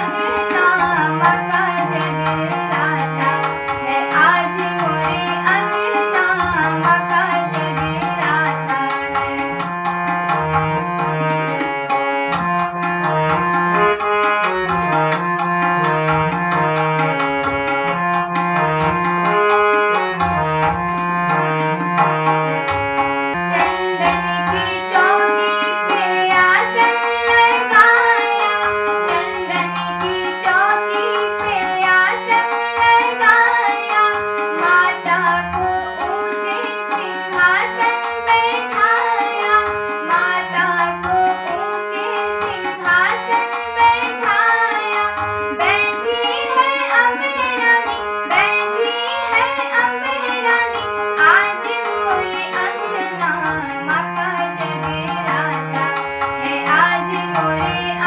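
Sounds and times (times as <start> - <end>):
devotional song with gliding melody: 0.0 - 58.0
hand drum rhythm: 0.0 - 58.0.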